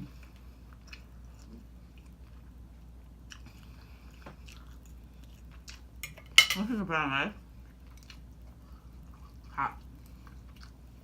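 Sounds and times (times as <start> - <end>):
person chewing food: 0.0 - 6.4, 7.6 - 11.0.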